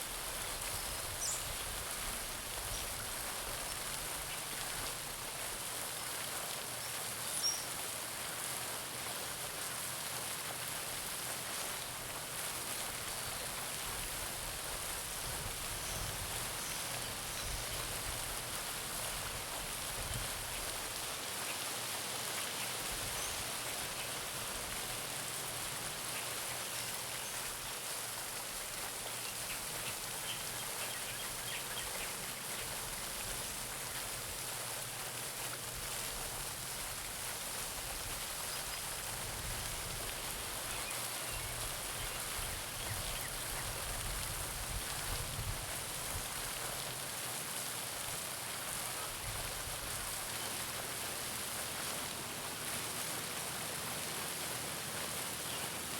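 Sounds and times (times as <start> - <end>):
fountain water splashing: 0.0 - 55.9.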